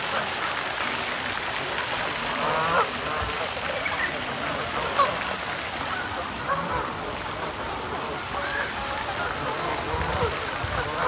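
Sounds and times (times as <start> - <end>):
water fountain splashing: 0.0 - 11.0.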